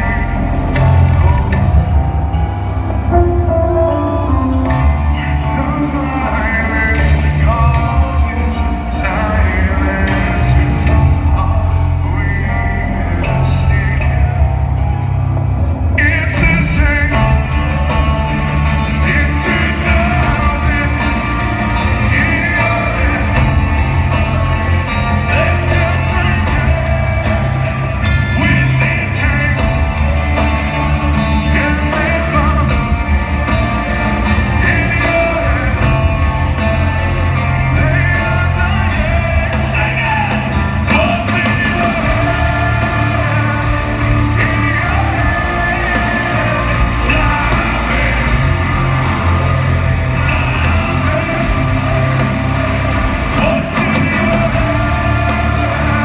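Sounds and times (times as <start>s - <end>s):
person singing: 0.0s - 56.0s
rock band playing live: 0.0s - 56.0s.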